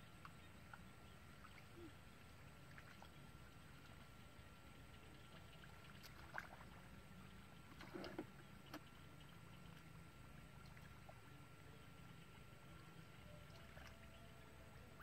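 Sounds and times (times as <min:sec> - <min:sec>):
splashes of shallow water: 0:00.2 - 0:04.2, 0:05.0 - 0:12.4, 0:13.2 - 0:14.4.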